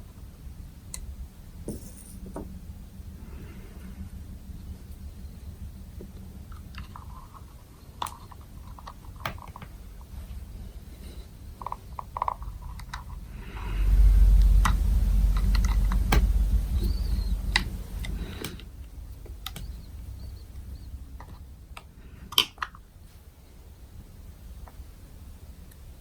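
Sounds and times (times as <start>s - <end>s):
low rumbling handling noise: 0.0s - 25.4s.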